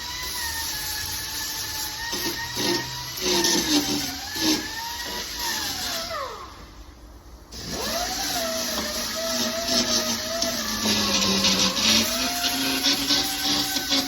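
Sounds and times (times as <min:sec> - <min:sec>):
grinder grinding metal: 0:00.0 - 0:06.3, 0:07.6 - 0:14.0.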